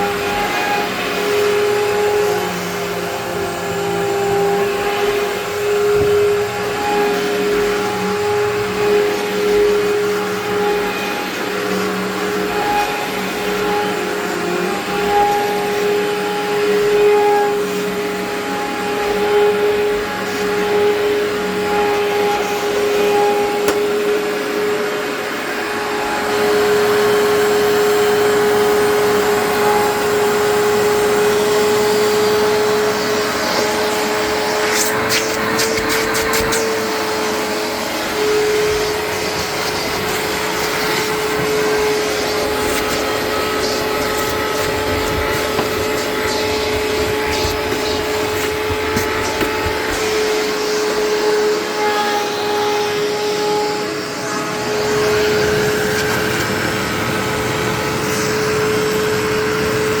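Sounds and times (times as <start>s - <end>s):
vacuum cleaner motor whine: 0.0s - 60.0s.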